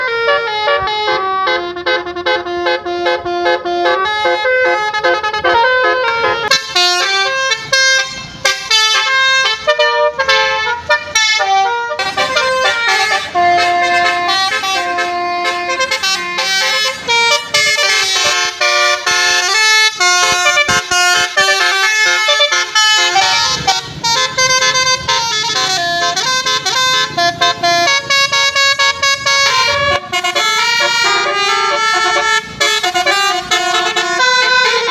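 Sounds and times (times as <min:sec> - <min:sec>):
bus musical horn melody: 0:00.0 - 0:34.9.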